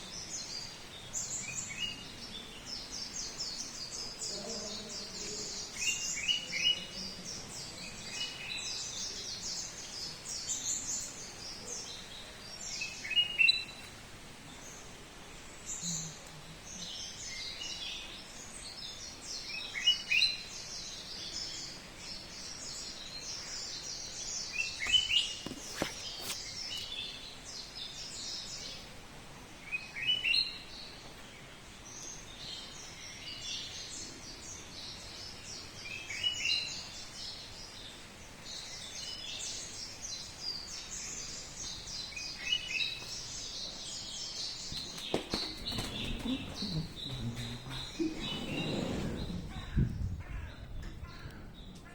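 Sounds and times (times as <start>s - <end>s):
small birds chirping: 0.0s - 29.0s, 29.6s - 51.9s.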